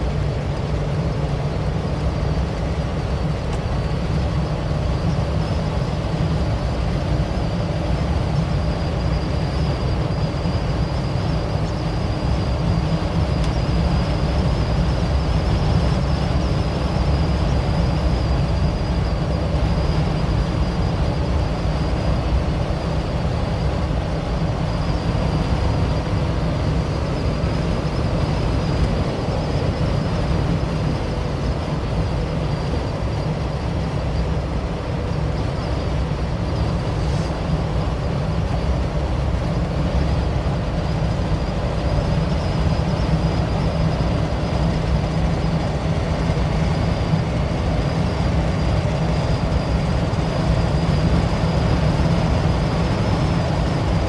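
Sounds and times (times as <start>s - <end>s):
diesel engine drone: 0.0s - 54.0s
road and wind noise: 0.0s - 54.0s
thin high whine: 0.0s - 54.0s.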